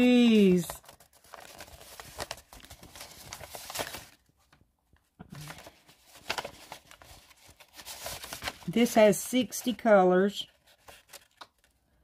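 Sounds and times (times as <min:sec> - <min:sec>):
paper and plastic wrap rustling: 0:00.0 - 0:04.6, 0:05.4 - 0:11.8.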